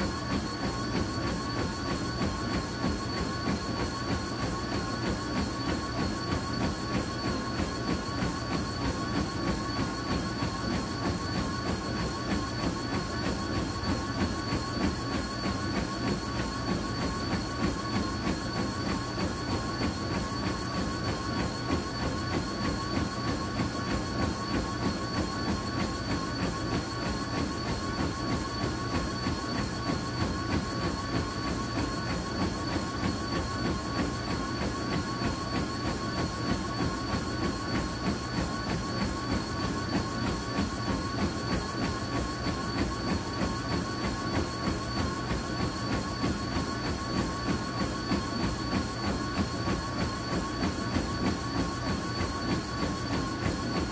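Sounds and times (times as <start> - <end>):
treadmill motor whine: 0.0 - 53.9.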